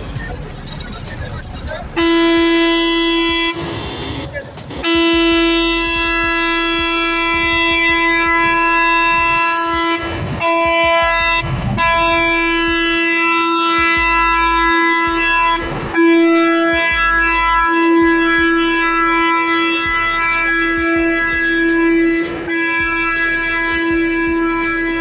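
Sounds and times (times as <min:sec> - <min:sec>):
vehicle horn blasts: 0:02.0 - 0:04.2, 0:04.8 - 0:25.0.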